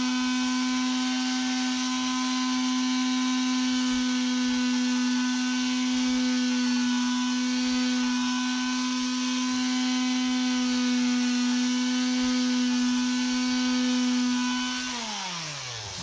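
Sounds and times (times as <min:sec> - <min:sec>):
orbital sander sanding plastic: 0:00.0 - 0:16.0.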